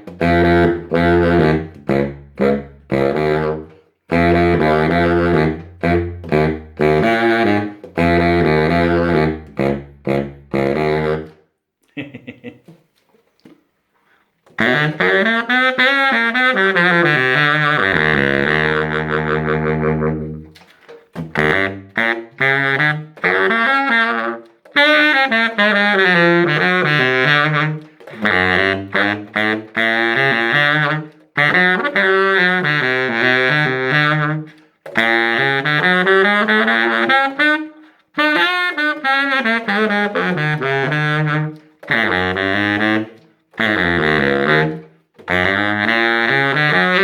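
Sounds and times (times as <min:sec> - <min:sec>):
baritone saxophone melody: 0:00.0 - 0:11.4, 0:14.4 - 0:47.0.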